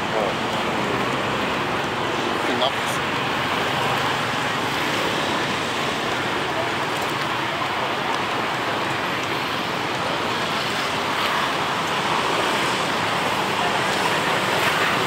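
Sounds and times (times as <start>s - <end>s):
traffic roar: 0.0s - 15.0s.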